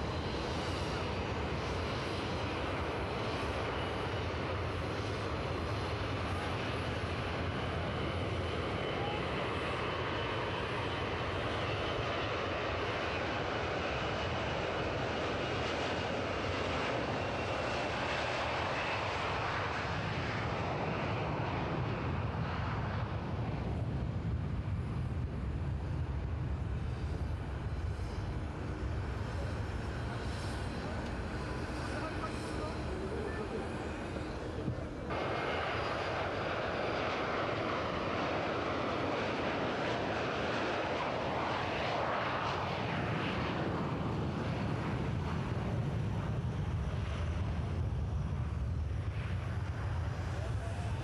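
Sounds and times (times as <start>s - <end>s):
jet engines rumbling: 0.0s - 51.0s.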